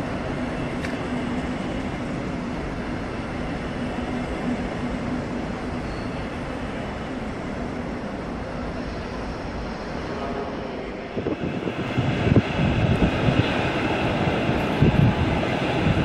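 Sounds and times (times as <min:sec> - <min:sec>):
train coaches rumbling on rails: 0:00.0 - 0:16.0.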